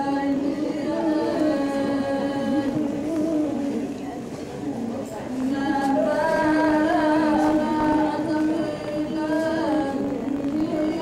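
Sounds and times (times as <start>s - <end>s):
person singing slow melody: 0.0s - 4.0s, 5.3s - 11.0s.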